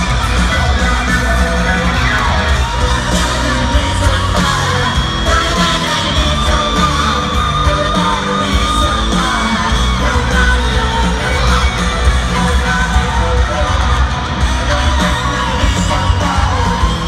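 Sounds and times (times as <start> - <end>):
live rock band: 0.0 - 17.0
man singing lead vocal: 0.0 - 17.0.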